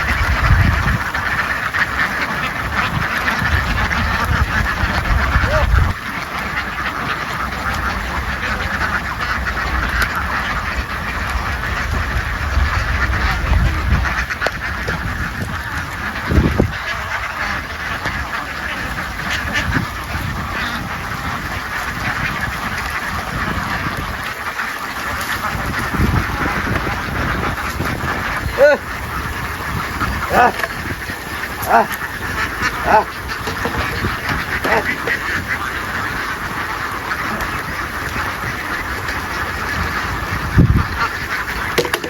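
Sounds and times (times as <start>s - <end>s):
ducks quacking: 0.0s - 42.0s.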